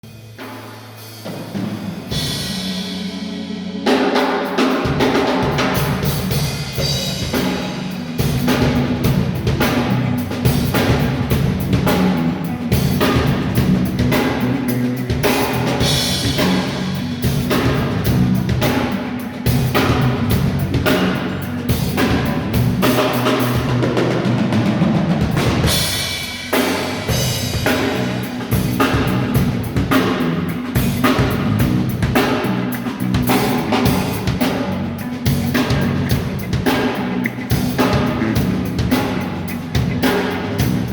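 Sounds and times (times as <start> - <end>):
drum kit groove: 0.0 - 40.9
faint band: 0.0 - 40.9.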